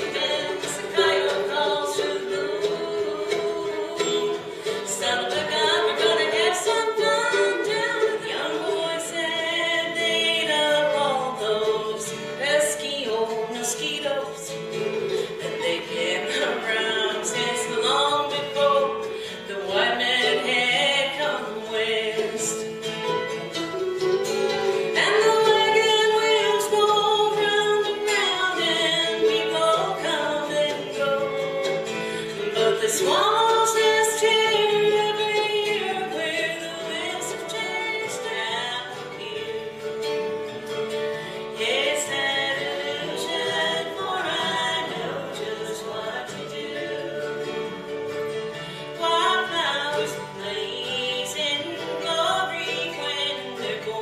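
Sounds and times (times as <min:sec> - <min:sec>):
person singing with vibrato: 0:00.0 - 0:23.2, 0:24.3 - 0:40.3, 0:41.0 - 0:54.0
instrumental accompaniment: 0:00.0 - 0:54.0.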